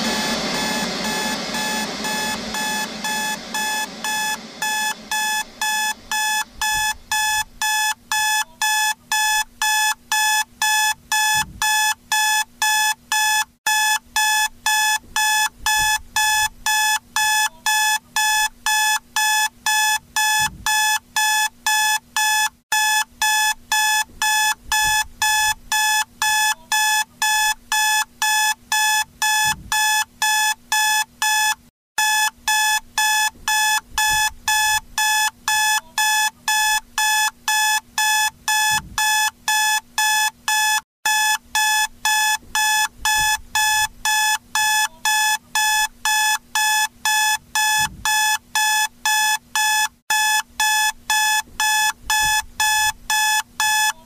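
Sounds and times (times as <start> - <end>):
electronic alarm beeping: 0.0 - 54.0.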